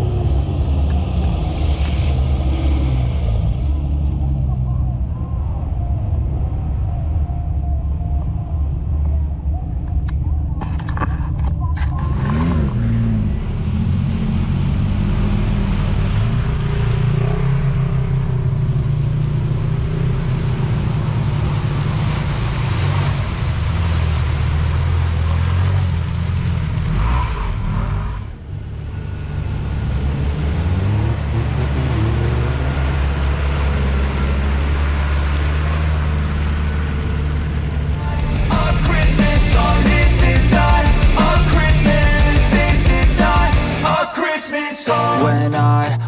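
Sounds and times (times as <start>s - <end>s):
off-road vehicle engines revving: 0.0s - 7.2s, 10.6s - 44.0s.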